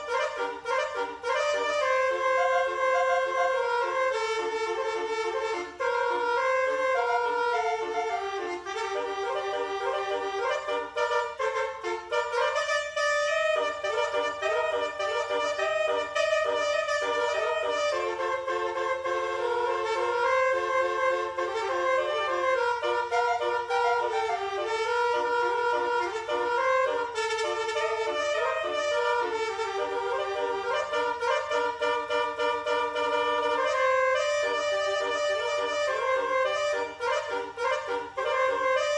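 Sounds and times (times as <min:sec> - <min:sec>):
musical bus horn melody: 0:00.0 - 0:38.9.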